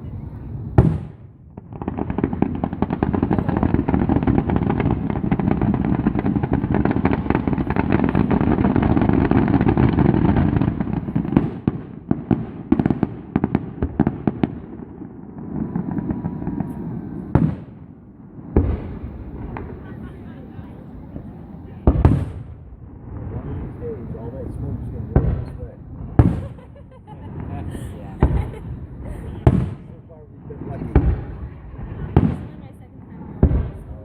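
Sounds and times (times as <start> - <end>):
fireworks crackling and banging: 0.0 - 34.0.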